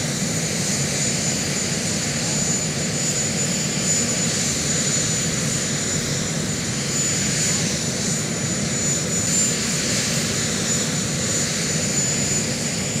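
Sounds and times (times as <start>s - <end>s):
helicopter engines running: 0.0s - 13.0s.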